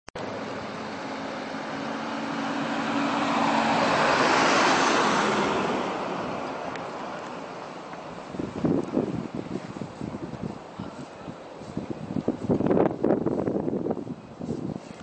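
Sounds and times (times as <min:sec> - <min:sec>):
low engine hum: 0:00.2 - 0:15.0
truck passing on snowy road: 0:00.2 - 0:15.0.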